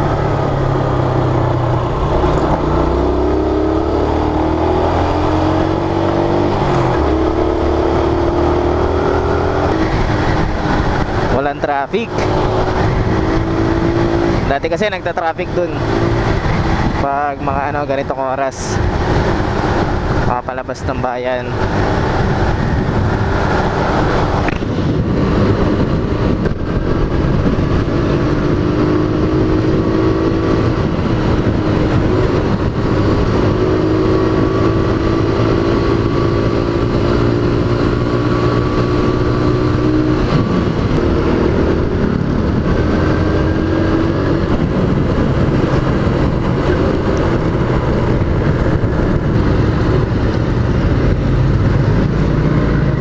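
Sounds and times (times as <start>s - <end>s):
motorcycle engine running: 0.0s - 53.0s
wind noise: 0.0s - 53.0s.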